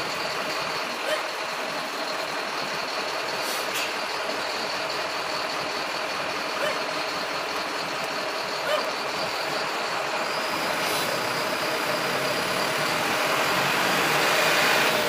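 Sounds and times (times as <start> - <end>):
street noise: 0.0 - 15.0
vehicle engines idling: 0.0 - 15.0.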